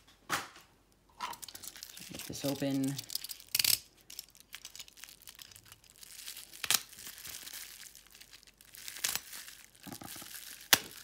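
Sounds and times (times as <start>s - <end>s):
bubble wrap crinkling: 1.3s - 11.0s
bubble wrap ripping: 1.4s - 11.0s.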